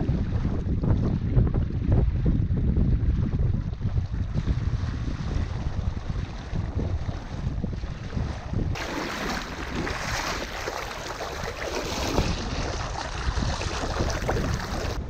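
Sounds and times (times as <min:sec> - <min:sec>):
water rushing against boat hull: 0:00.0 - 0:15.0
wind on microphone: 0:00.0 - 0:15.0.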